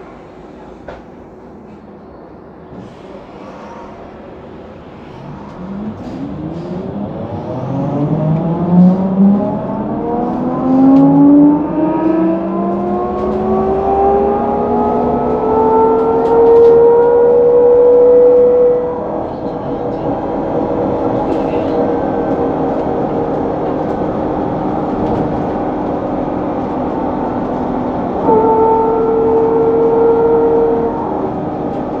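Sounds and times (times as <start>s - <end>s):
trolleybus electric drive whining: 0.0s - 32.0s.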